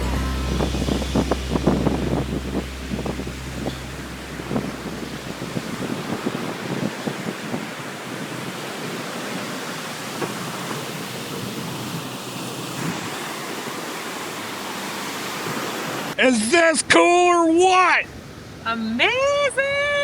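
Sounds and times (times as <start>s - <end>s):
waves breaking on beach: 0.0s - 16.2s.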